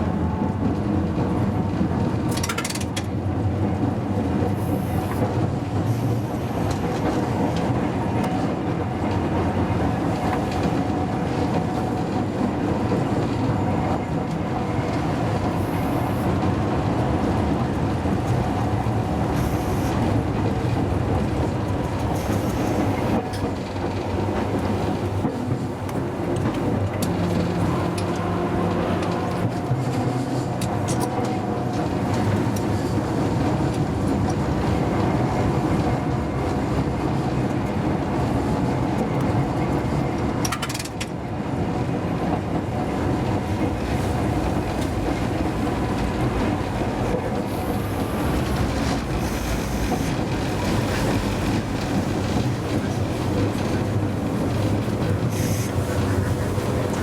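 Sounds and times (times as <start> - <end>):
tram motors humming: 0.0 - 57.0
wheels rumbling on rails: 0.0 - 57.0.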